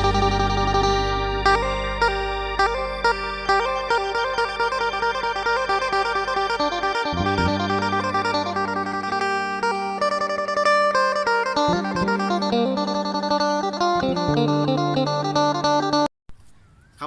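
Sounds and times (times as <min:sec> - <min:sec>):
guitar background music: 0:00.0 - 0:16.1.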